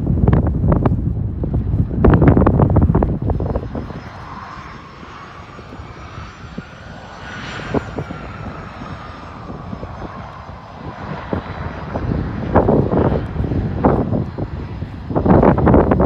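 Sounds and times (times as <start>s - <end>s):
low rumble: 0.0s - 16.0s
wind buffeting microphone: 0.0s - 16.0s
jet engines whining: 0.1s - 16.0s.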